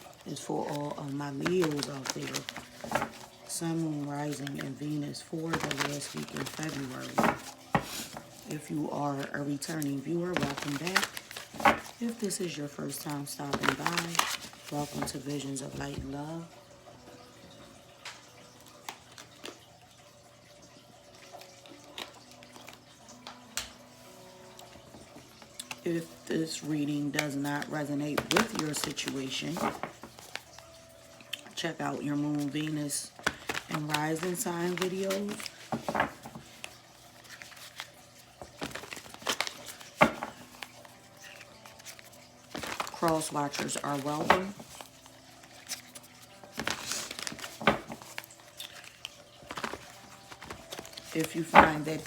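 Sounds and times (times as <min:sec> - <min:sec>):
cards being shuffled: 0:00.0 - 0:16.1, 0:21.8 - 0:30.8, 0:32.4 - 0:52.0.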